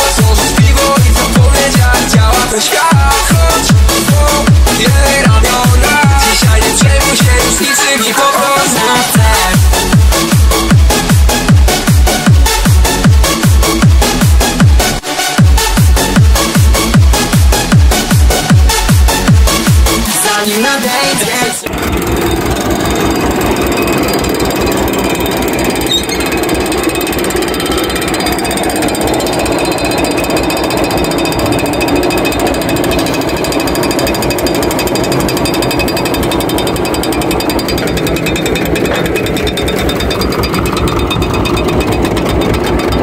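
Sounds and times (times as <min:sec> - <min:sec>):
mower cutting grass: 0:00.0 - 0:43.0
tractor diesel engine chugging: 0:00.0 - 0:43.0.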